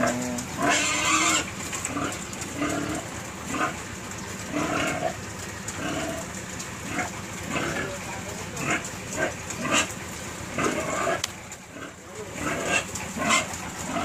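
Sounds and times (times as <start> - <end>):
pig squealing: 0.0 - 3.8, 5.8 - 8.0, 8.6 - 14.0
pigs grunting: 0.0 - 14.0.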